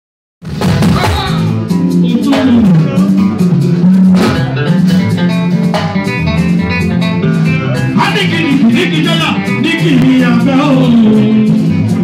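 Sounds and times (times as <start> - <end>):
bass line: 0.4 - 12.0
drum kit: 0.4 - 12.0
guitar lines: 0.9 - 12.0.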